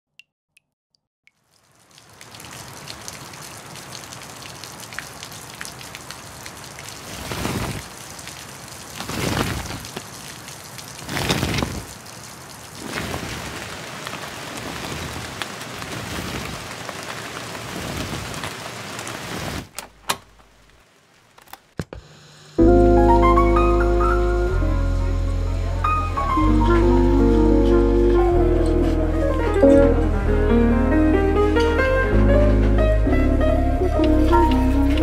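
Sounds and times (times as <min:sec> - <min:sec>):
steady rain falling: 0:01.4 - 0:21.8, 0:22.6 - 0:35.0.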